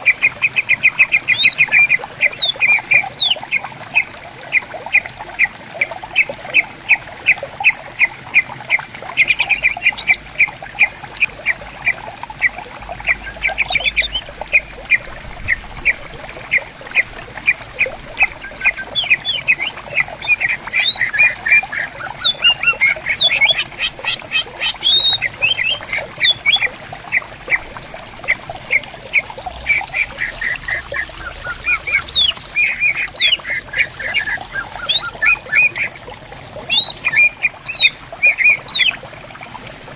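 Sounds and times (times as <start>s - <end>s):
birds calling harsh notes: 0.0s - 39.0s
stream trickling: 0.0s - 39.9s.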